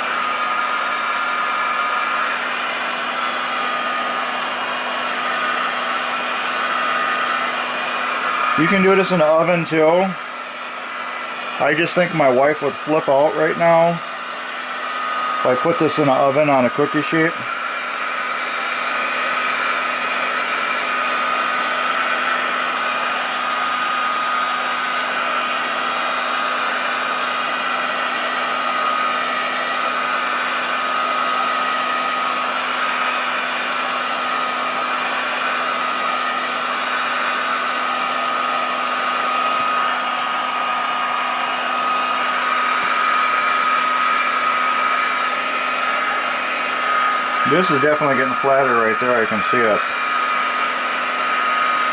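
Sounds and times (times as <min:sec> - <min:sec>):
heat gun blowing air: 0:00.0 - 0:51.9.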